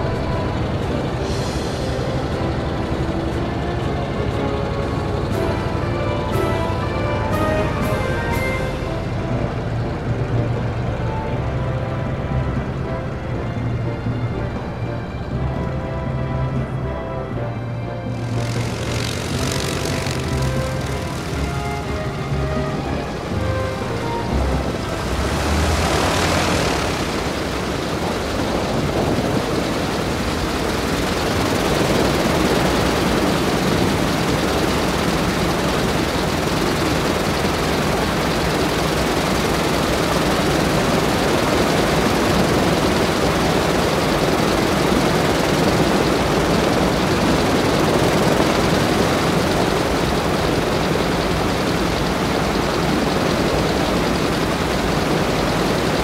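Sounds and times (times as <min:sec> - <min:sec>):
propeller aircraft engines running: 0:00.0 - 0:56.0.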